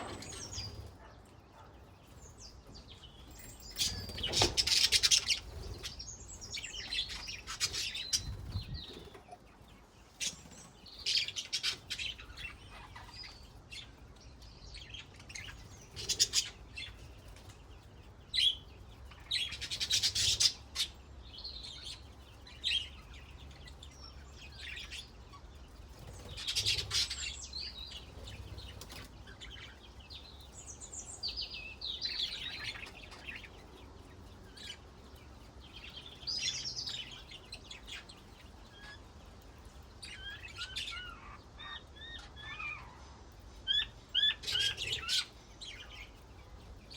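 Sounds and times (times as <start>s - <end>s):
budgerigars chirping and warbling: 0.0s - 46.9s.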